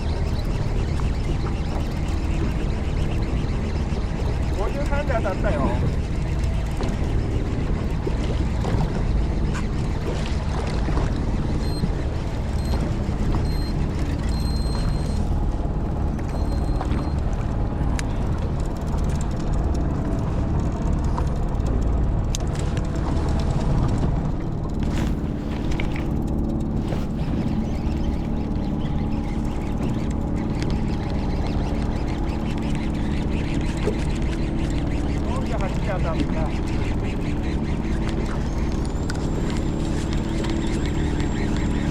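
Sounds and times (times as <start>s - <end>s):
boat engine running: 0.0s - 41.9s
water noise: 0.0s - 41.9s.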